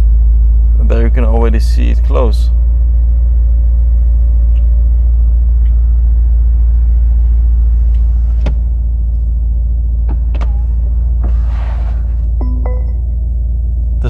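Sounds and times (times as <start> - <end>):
low cabin rumble: 0.0 - 14.0.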